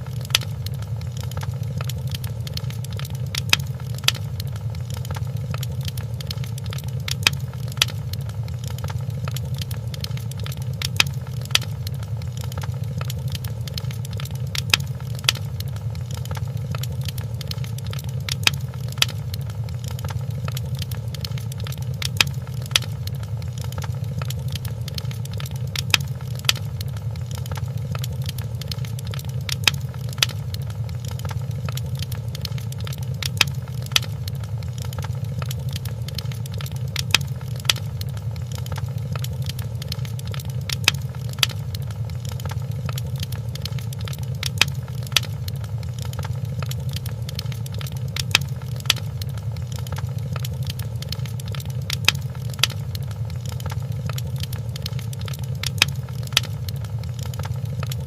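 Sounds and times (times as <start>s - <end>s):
sharp pops from fire: 0.0s - 58.0s
wood fire crackling: 0.0s - 58.0s.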